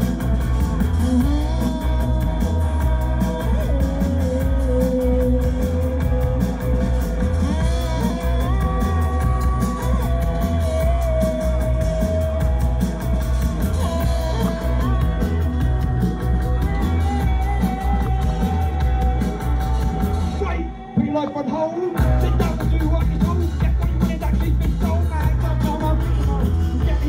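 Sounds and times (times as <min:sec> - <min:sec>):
drum beat: 0:00.0 - 0:27.0
heavy bass: 0:00.0 - 0:27.0.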